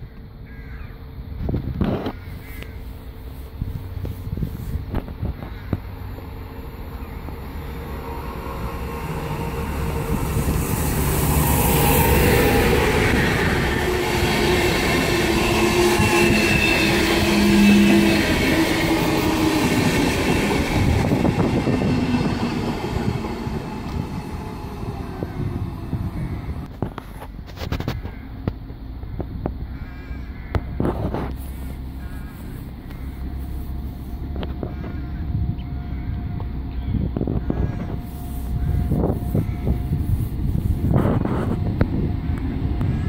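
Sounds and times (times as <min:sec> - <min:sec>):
train wheels rolling on rails: 0:02.8 - 0:29.6, 0:30.6 - 0:43.0.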